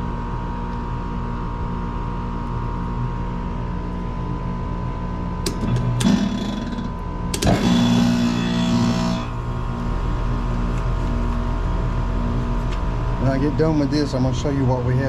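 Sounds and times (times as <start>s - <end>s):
electrical hum of hvac equipment: 0.0s - 15.0s
loud buzzing hum: 0.0s - 15.0s.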